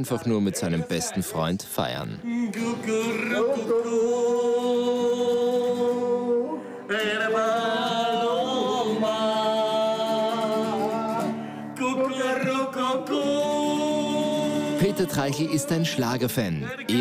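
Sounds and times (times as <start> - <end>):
acoustic guitar: 0.0 - 17.0
person singing: 2.1 - 17.0.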